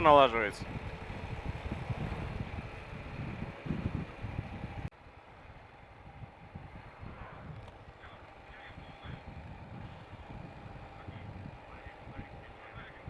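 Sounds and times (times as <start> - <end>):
wind noise on microphone: 0.0 - 8.0, 8.7 - 13.0
motorcycle engine rumbling: 0.0 - 13.0.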